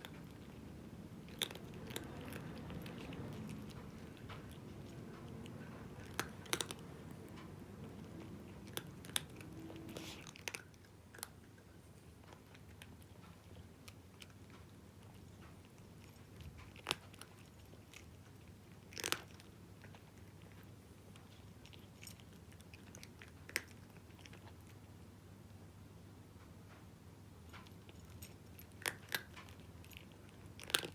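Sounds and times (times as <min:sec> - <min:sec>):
cat crunching dry kibble: 0:00.0 - 0:24.9, 0:27.5 - 0:30.9.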